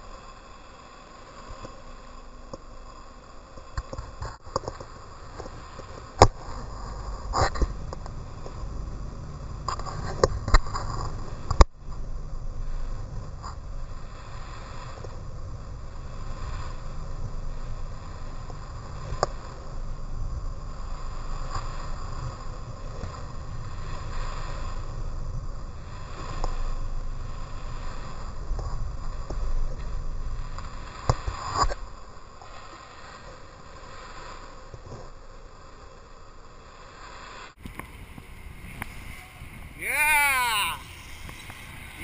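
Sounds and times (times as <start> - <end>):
boat engine rumble: 0.0 - 42.0
water and wind hiss: 0.0 - 42.0.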